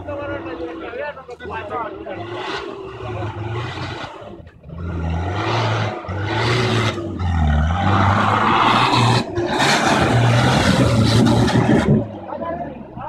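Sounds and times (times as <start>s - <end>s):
off-road vehicle engine revving: 0.0s - 13.0s
tyres churning loose ground: 0.0s - 13.0s.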